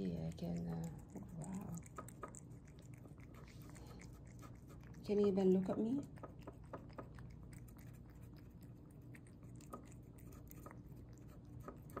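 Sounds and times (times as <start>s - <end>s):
cat chewing wet food: 0.0s - 12.0s.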